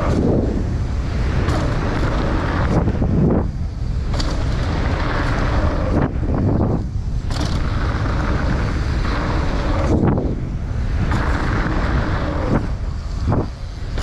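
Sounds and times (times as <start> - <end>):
bike tyres rumbling over dirt: 0.0 - 14.0
wind rushing over microphone: 0.0 - 14.0.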